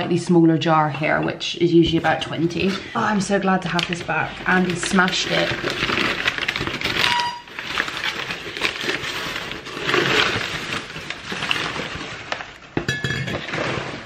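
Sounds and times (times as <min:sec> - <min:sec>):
wrapping rustling and crinkling: 0:01.8 - 0:14.0.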